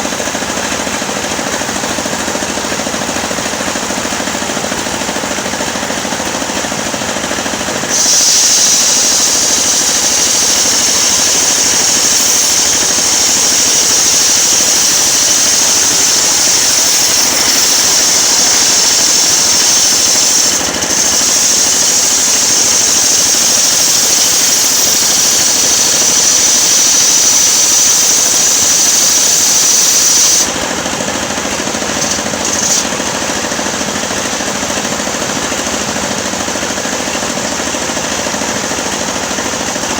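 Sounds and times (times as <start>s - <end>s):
engine running: 0.0s - 39.9s
saw blade cutting whine: 1.5s - 39.9s.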